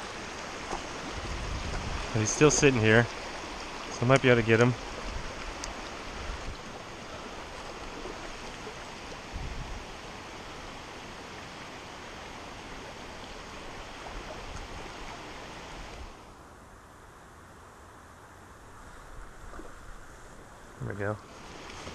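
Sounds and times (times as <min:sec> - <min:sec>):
creek water rushing over rocks: 0:00.0 - 0:16.4, 0:18.7 - 0:21.9.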